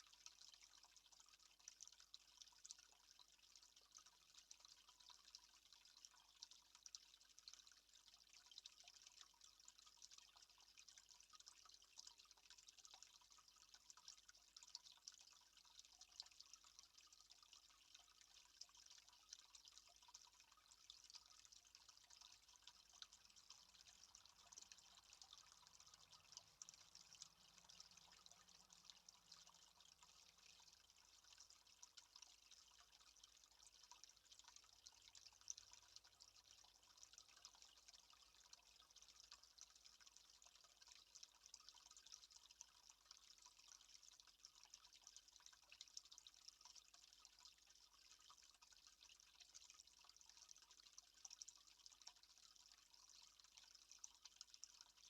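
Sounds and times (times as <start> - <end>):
faint water dripping: 0.0 - 55.0.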